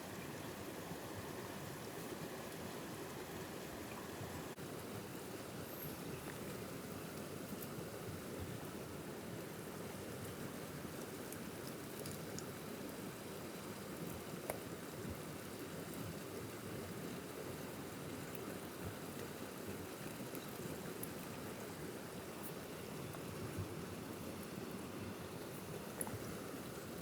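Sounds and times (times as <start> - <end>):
forest stream running: 0.0 - 27.0.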